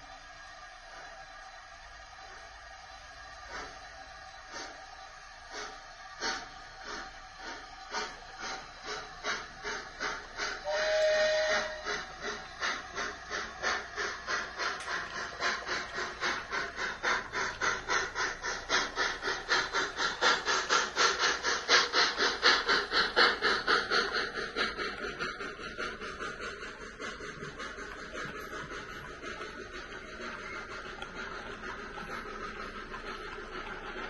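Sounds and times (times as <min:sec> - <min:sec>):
model steam locomotive chuffing: 0:00.0 - 0:34.0
steam hiss: 0:00.0 - 0:34.0.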